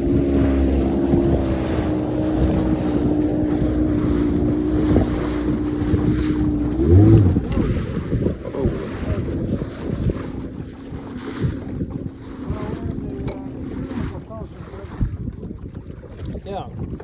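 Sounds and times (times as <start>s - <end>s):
boat motor running: 0.0s - 17.0s
wind buffeting microphone: 0.0s - 17.0s.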